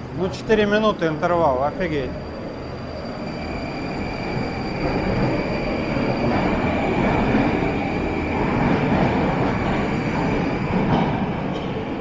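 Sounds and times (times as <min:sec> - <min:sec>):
metro train rumbling on rails: 0:00.0 - 0:12.0.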